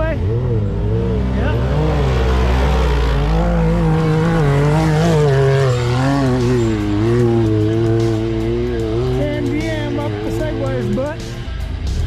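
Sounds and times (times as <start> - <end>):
utility vehicle engine revving: 0.0 - 12.0.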